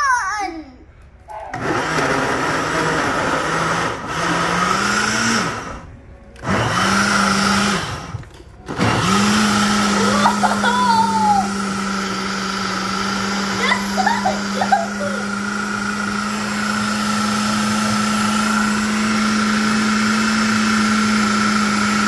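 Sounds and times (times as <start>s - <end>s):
blender running: 1.5s - 5.8s, 6.4s - 22.0s.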